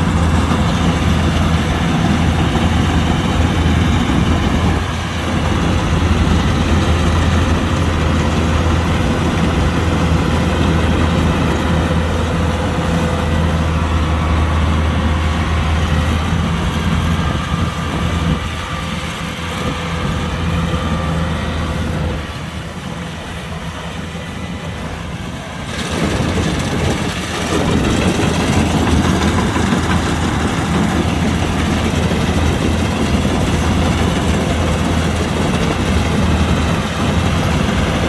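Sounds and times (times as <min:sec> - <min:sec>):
combine harvester running: 0:00.0 - 0:38.0.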